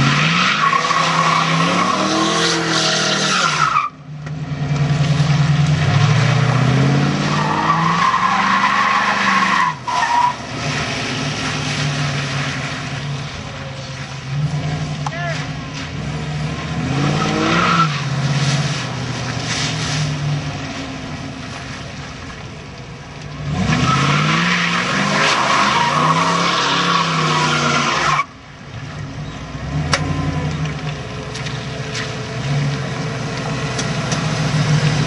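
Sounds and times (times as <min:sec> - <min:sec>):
tyre noise on wet pavement: 0:00.0 - 0:35.0.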